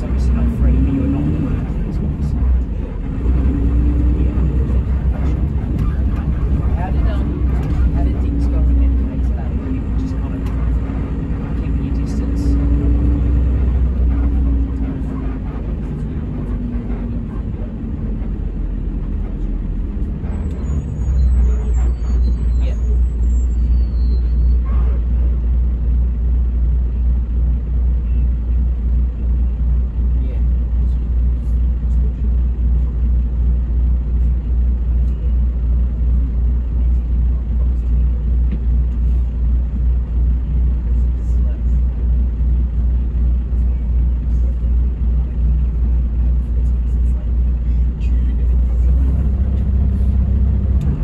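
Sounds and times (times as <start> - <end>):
diesel engine rumbling: 0.0 - 51.0
road noise: 0.0 - 51.0.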